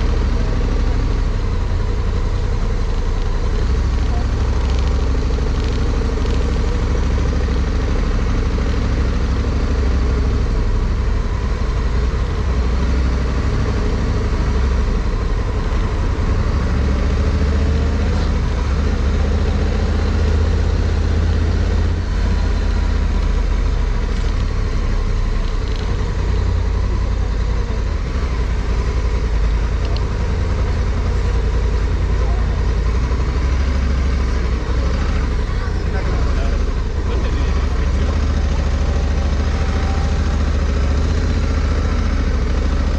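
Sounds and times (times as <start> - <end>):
motorcycle engine rumbling: 0.0 - 42.9
road noise: 0.0 - 42.9.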